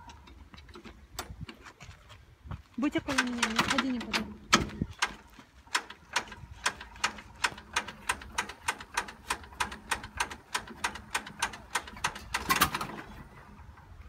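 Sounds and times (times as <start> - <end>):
tractor engine hand-crank clicks: 0.0 - 1.8, 3.0 - 13.8.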